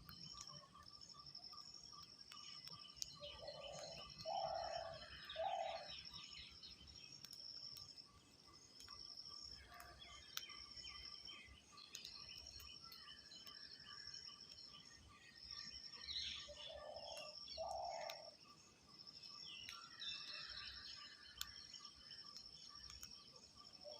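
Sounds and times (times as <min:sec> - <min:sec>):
birds chirping and trilling: 0:00.0 - 0:23.9.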